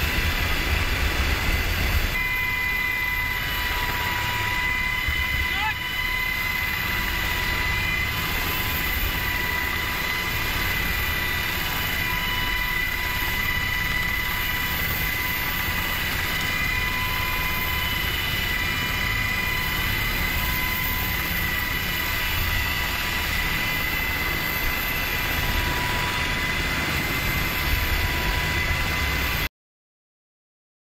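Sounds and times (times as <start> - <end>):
helicopter rotor and engine din: 0.0 - 29.5
high whine: 0.0 - 29.5.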